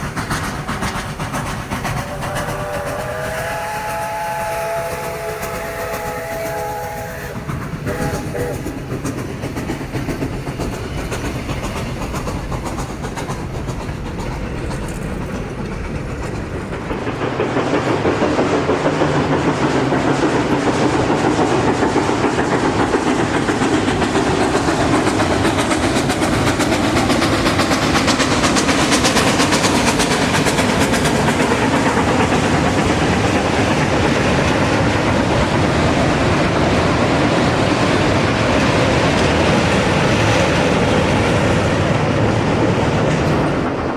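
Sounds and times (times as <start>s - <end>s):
steam train passing on rails: 0.0s - 43.9s.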